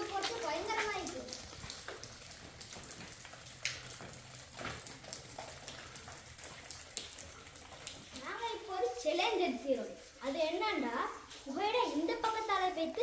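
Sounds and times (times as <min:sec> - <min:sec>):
water dripping from rock: 0:00.0 - 0:13.0.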